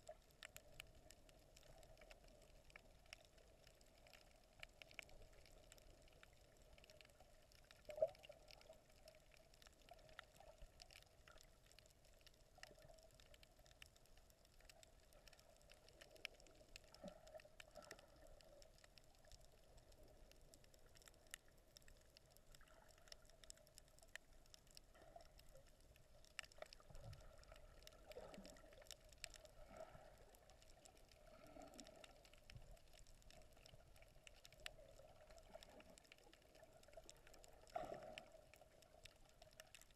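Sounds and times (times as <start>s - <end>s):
small clicks and crackles: 0.0s - 39.9s.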